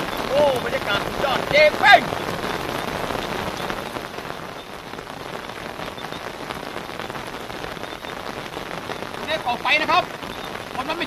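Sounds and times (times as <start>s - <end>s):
heavy rain hiss: 0.0s - 11.0s
raindrops ticking: 0.0s - 11.0s.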